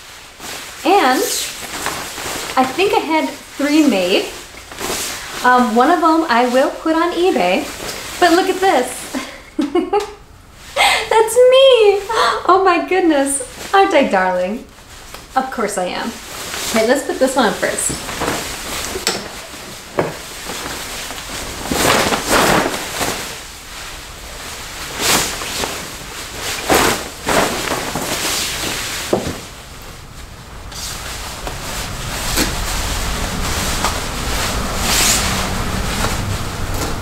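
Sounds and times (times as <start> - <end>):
nylon cape rustling and swishing: 0.0 - 9.4, 13.3 - 37.0.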